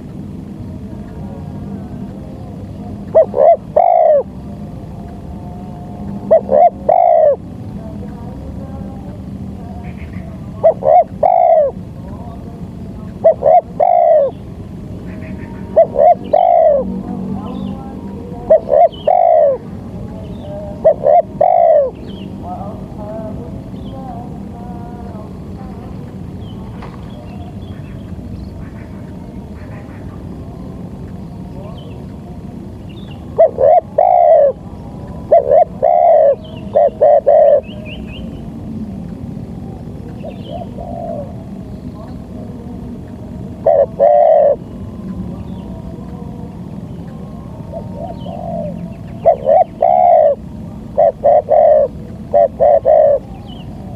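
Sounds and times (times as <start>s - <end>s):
dove cooing: 0.8s - 8.8s, 9.5s - 30.7s, 33.1s - 53.9s
small birds chirping: 0.9s - 53.9s.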